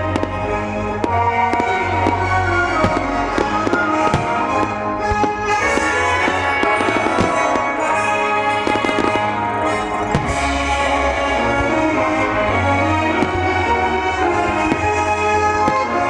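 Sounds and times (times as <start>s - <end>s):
fireworks bangs: 0.0s - 16.0s
music with sustained tones: 0.0s - 16.0s.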